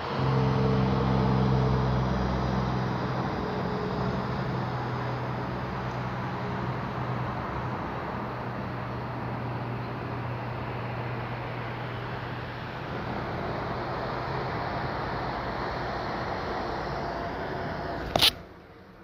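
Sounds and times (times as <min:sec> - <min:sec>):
low hum: 0:00.0 - 0:18.8
distant street traffic rumble: 0:00.0 - 0:19.0.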